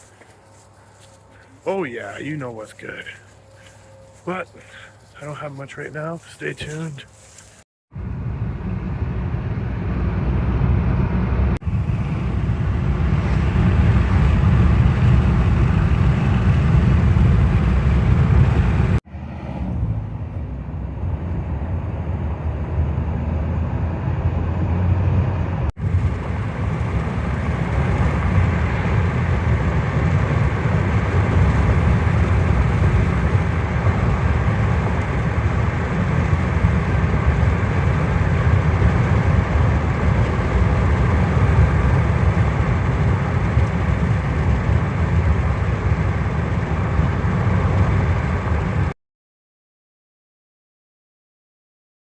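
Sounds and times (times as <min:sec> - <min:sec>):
vehicle rumble and road noise: 0:00.0 - 0:49.0.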